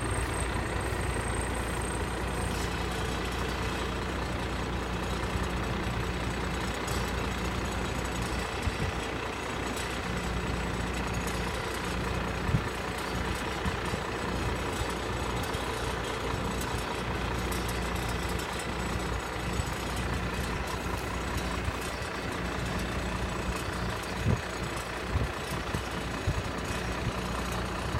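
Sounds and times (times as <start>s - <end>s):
harvester diesel engine running: 0.0s - 27.9s.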